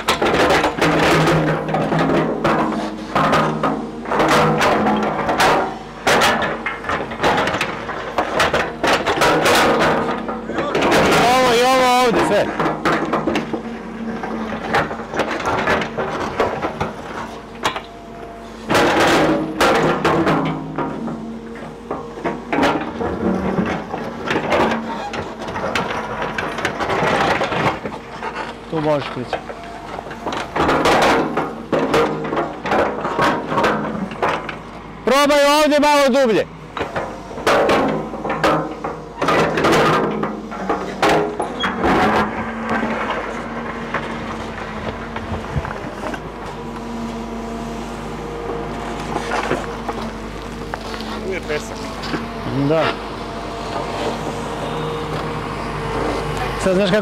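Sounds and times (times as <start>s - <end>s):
steel bucket scraping earth: 0.0s - 17.7s, 18.4s - 57.0s
soil and stones clattering: 0.0s - 47.3s, 48.3s - 53.1s
excavator engine humming: 0.0s - 57.0s.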